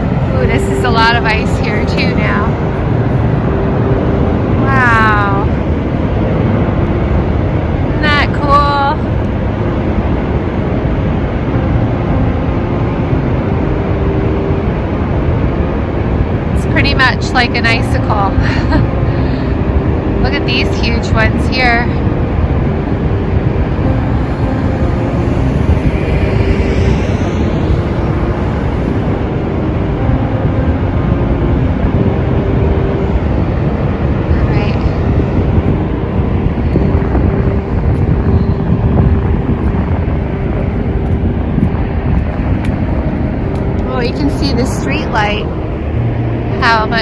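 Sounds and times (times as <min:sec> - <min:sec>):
waterfall roaring: 0:00.0 - 0:46.5.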